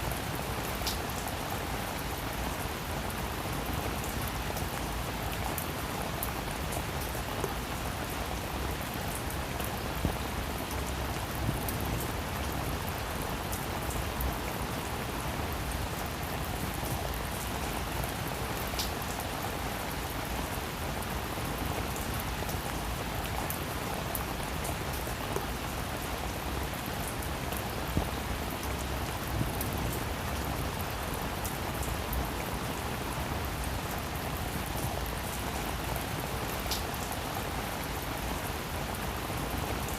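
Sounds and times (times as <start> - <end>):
raindrops ticking on surface: 0.1 - 39.9.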